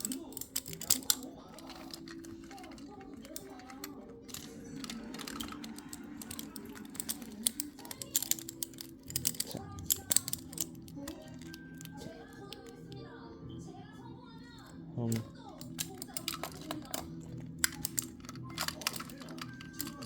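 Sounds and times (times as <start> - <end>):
faint background music: 0.0 - 20.0.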